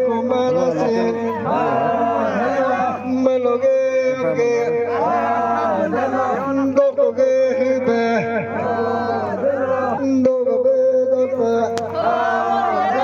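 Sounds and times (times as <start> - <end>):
folk chanting song: 0.0 - 13.0.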